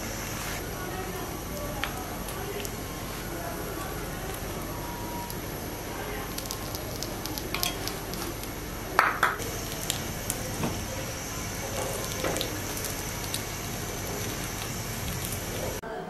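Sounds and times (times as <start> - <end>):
flatbread frying on a griddle: 0.0 - 15.8
clatter of flatbread being turned: 1.2 - 15.8.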